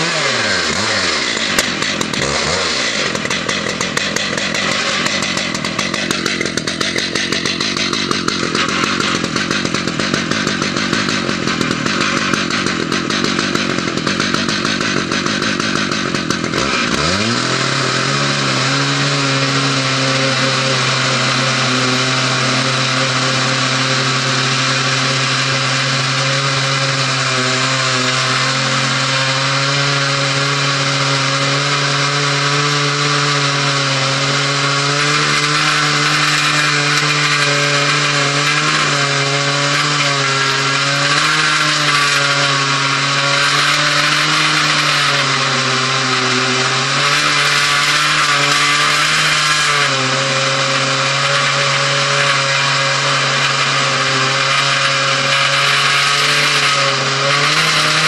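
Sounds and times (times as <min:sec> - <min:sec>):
chainsaw running flat out: 0:00.0 - 0:58.0.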